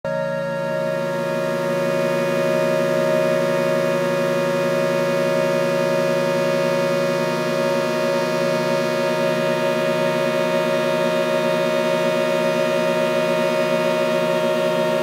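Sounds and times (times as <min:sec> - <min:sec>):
experimental drone music: 0:00.0 - 0:15.0.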